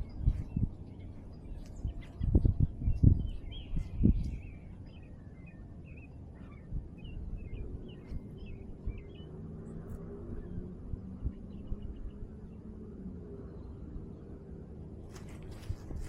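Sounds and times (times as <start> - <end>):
small birds chirping: 0.0 - 14.4
low steady hum: 0.0 - 16.0.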